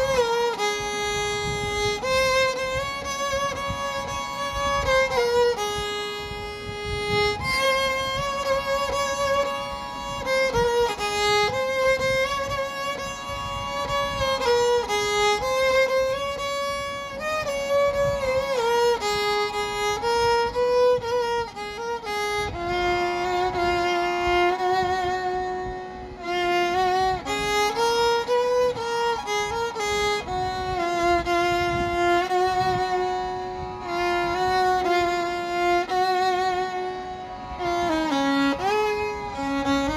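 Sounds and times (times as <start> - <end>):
violin playing slow melody: 0.0 - 39.9.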